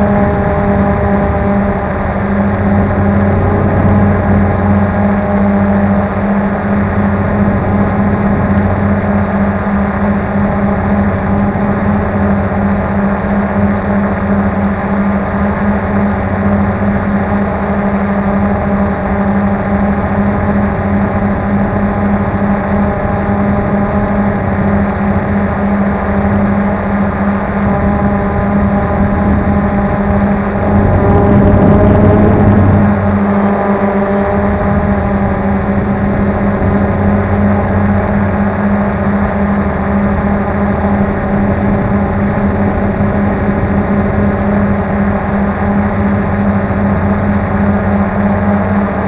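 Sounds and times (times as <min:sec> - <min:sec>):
drone propellers buzzing: 0:00.0 - 0:49.0.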